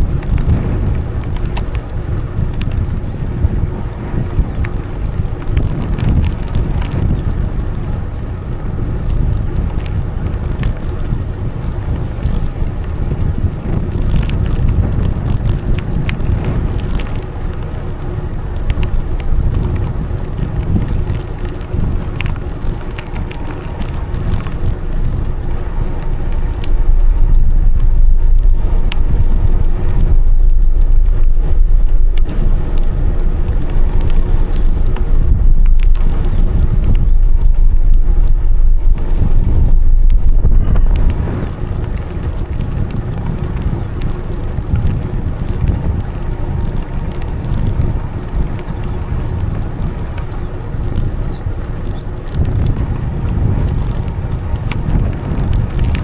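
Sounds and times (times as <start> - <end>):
bicycle tyre rumble: 0.0 - 56.0
small clicks from path surface: 0.0 - 56.0
wind buffeting microphone: 0.0 - 56.0.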